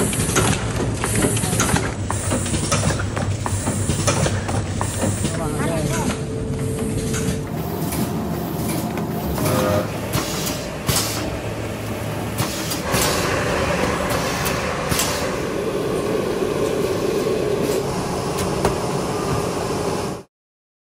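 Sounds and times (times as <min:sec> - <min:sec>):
conveyor machine running: 0:00.0 - 0:20.3
packaging machinery running: 0:00.0 - 0:20.3.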